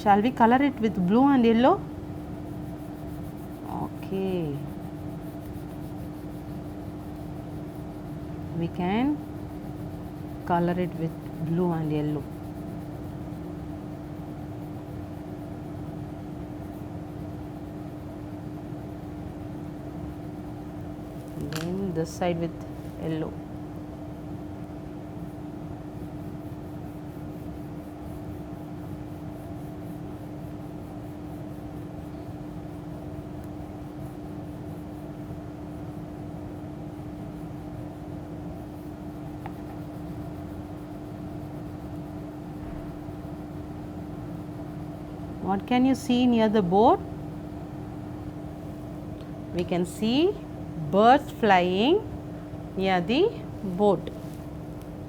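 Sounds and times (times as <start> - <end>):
constant tone hum: 0.0 - 55.0.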